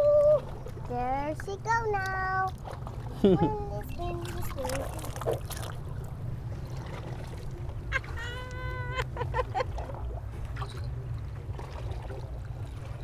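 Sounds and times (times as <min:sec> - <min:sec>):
surf at shoreline: 0:00.0 - 0:13.0
wind: 0:00.0 - 0:13.0.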